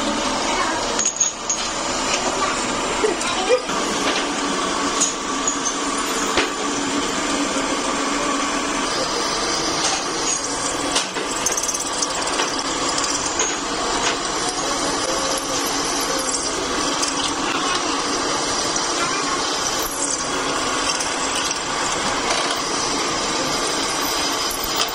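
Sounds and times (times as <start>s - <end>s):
drill press cutting steel: 0.0s - 24.9s.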